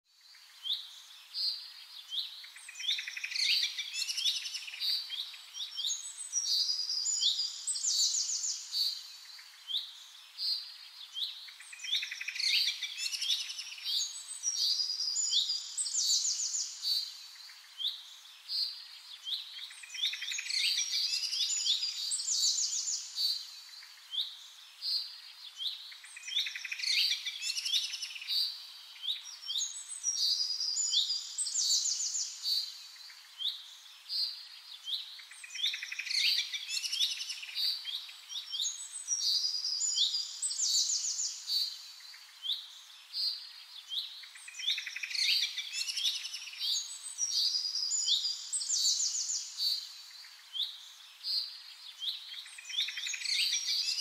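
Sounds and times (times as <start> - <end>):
small birds chirping and trilling: 0.1 - 54.0.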